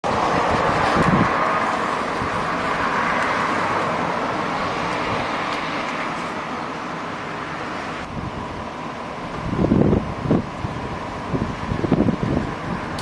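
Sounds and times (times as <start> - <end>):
air conditioner fan blowing: 0.0 - 13.0.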